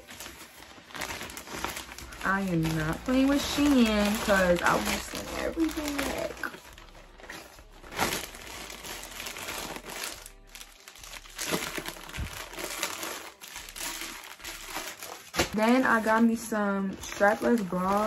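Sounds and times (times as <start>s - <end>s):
crinkling rustling: 0.0s - 18.0s
music: 0.0s - 18.0s.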